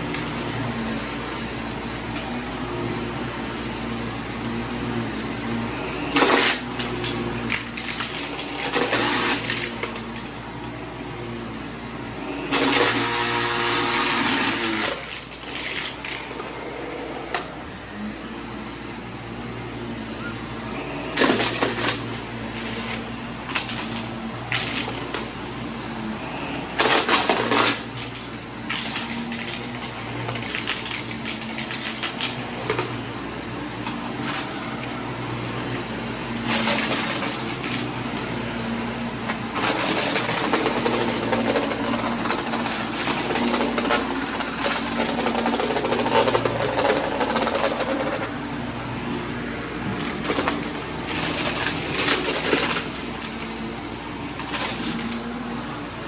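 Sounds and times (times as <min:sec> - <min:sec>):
debris rattling in vacuum: 0:00.0 - 0:17.6, 0:20.4 - 0:56.0
vacuum cleaner motor hum: 0:00.0 - 0:56.0.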